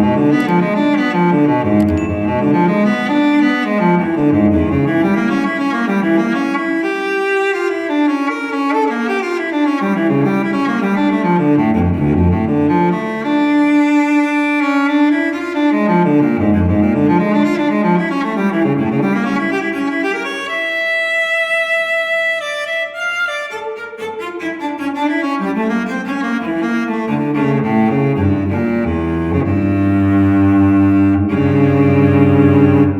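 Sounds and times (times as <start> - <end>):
slow orchestral strings: 0.0 - 32.9.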